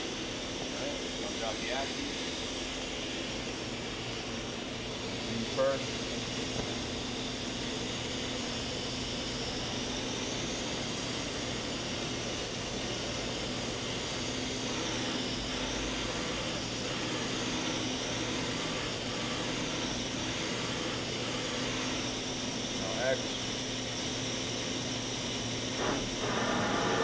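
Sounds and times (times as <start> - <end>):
machining center humming: 0.0 - 27.0.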